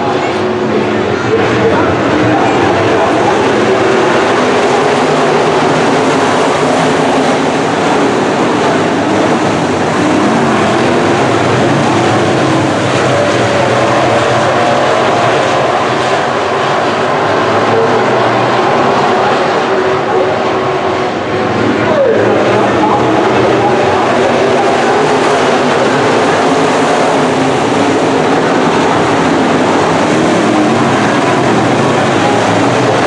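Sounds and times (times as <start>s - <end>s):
race car engines roaring: 0.0s - 33.0s.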